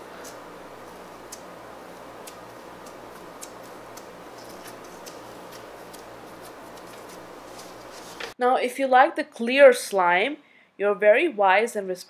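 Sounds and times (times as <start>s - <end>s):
faint steady hiss: 0.0s - 11.4s.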